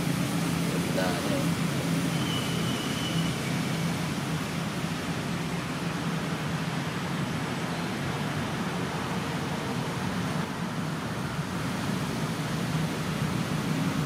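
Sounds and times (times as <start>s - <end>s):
steady low hum with hiss: 0.0s - 14.0s.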